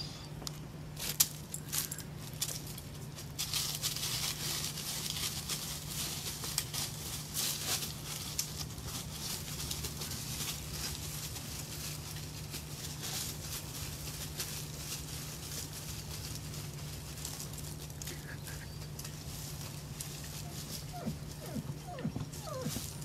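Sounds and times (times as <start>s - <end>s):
steady low hum: 0.0s - 23.0s
dog digging in dry dirt: 1.0s - 23.0s.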